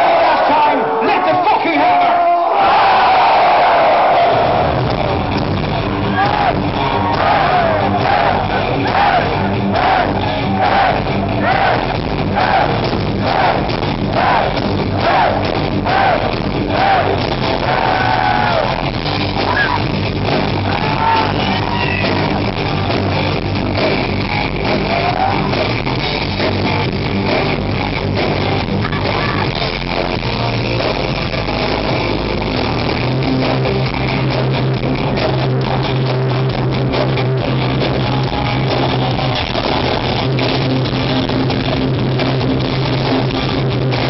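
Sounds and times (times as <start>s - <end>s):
metal band playing live: 4.2s - 44.0s.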